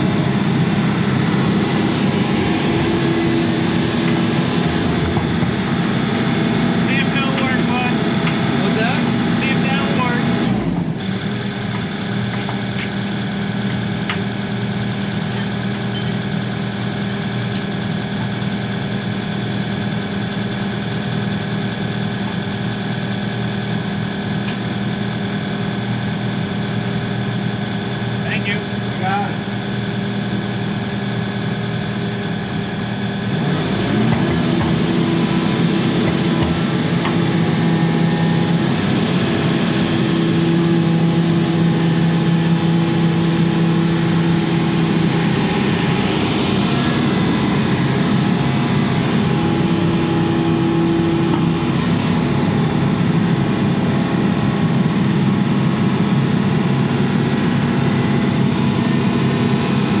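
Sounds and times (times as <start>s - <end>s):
diesel excavator engine running: 0.0s - 60.0s.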